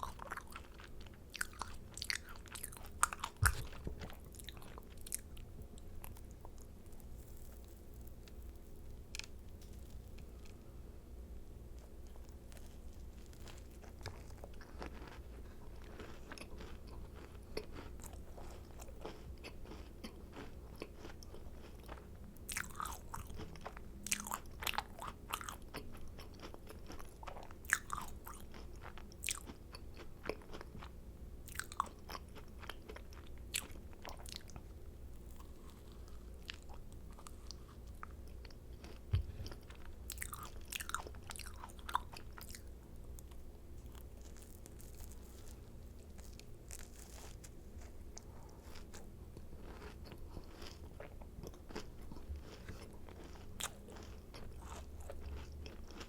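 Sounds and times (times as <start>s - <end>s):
crunching macaron shells: 0.0s - 10.8s, 11.4s - 56.0s.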